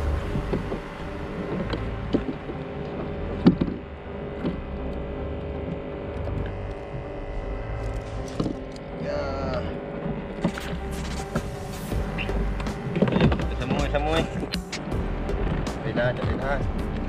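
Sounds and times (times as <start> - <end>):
low rumble of vehicle engines: 0.0 - 17.0
steady tones: 0.0 - 17.0.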